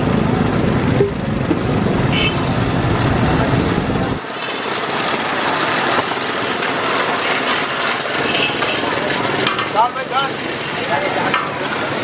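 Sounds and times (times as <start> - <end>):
street noise hiss: 0.0 - 12.0.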